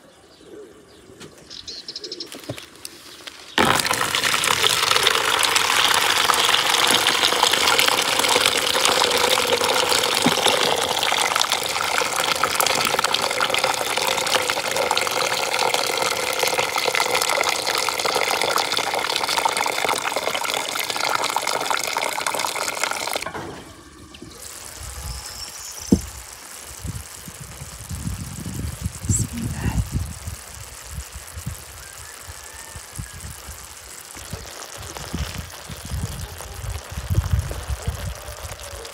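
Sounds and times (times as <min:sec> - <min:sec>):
water pouring into plastic bucket: 0:03.6 - 0:38.9.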